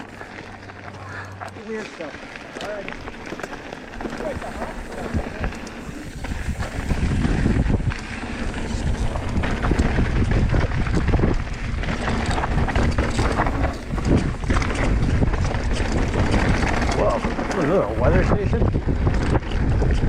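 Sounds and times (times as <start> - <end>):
bike frame rattling: 0.0 - 20.0
tyre rumble: 0.0 - 20.0
wind buffeting microphone: 2.8 - 20.0.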